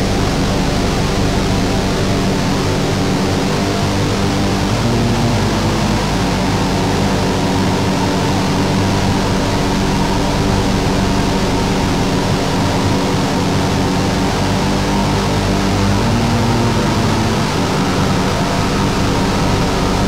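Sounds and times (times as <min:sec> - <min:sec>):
distorted metal guitar chords: 0:00.0 - 0:20.0.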